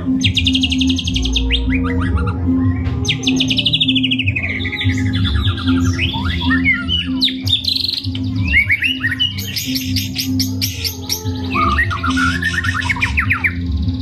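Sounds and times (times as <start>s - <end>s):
bird singing varied song: 0.0s - 14.0s.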